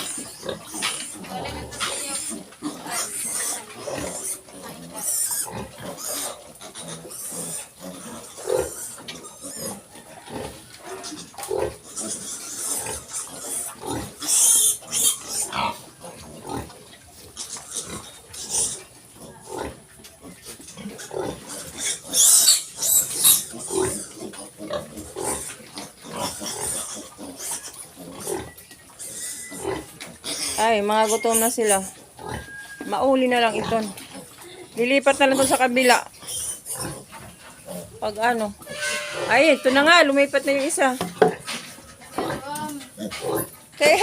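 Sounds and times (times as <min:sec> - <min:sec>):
piglets grunting and squealing: 0:00.0 - 0:44.0.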